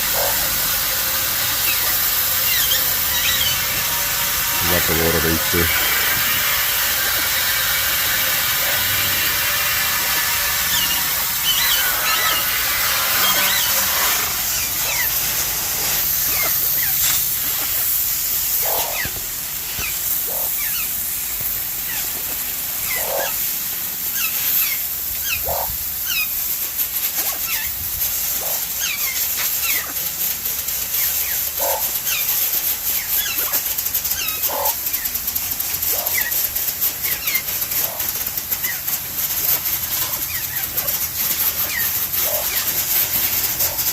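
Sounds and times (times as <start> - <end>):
parrots chirping: 0.0 - 17.8, 18.5 - 19.2, 19.8 - 21.0, 22.8 - 23.4, 24.1 - 26.4, 27.2 - 30.1, 30.8 - 43.9
parrots squawking: 0.0 - 17.8, 18.6 - 19.2, 19.8 - 21.0, 22.8 - 23.4, 24.1 - 26.3, 27.2 - 30.1, 30.9 - 35.2, 35.8 - 43.9
water spraying from hose: 0.0 - 43.9.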